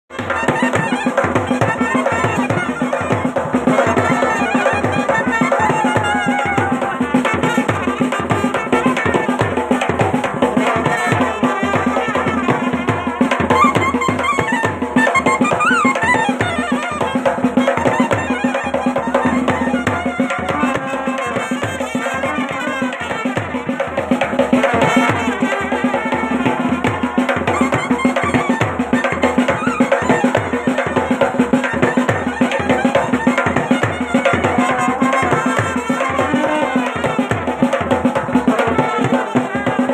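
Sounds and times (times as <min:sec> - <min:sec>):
rapid driving drumming: 0:00.1 - 0:39.9
wind instrument melody: 0:00.1 - 0:39.9.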